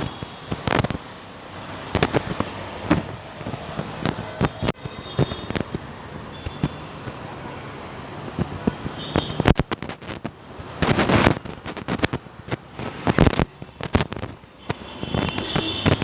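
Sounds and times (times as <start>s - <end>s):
sharp cracks and crackles: 0.0s - 1.1s, 1.7s - 7.2s, 8.3s - 16.0s.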